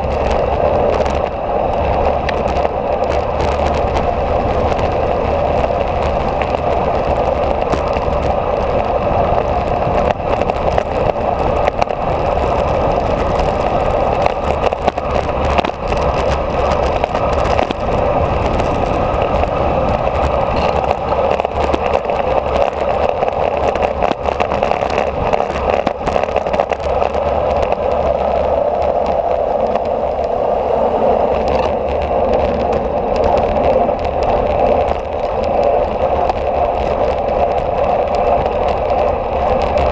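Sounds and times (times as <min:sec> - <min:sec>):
low rumble: 0:00.0 - 0:39.9
small crackles: 0:00.0 - 0:39.9
wind buffeting microphone: 0:00.0 - 0:39.9.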